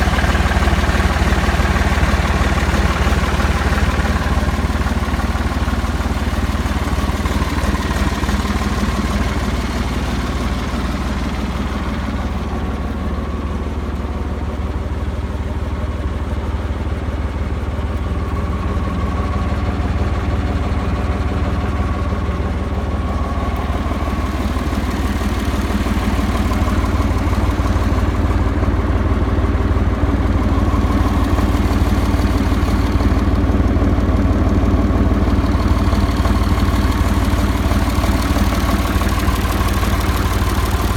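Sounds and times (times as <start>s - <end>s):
bulldozer engine idling: 0.0s - 40.9s.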